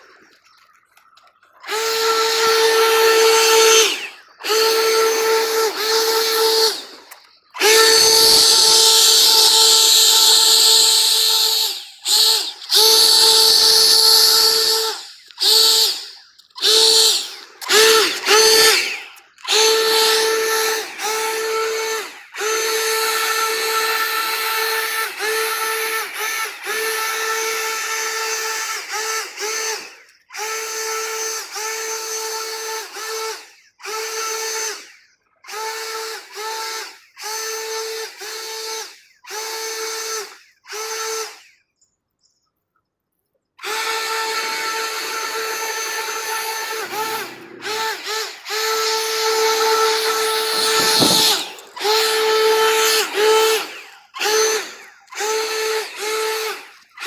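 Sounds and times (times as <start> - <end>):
leaf blower motor: 0.0 - 41.6, 43.6 - 57.0.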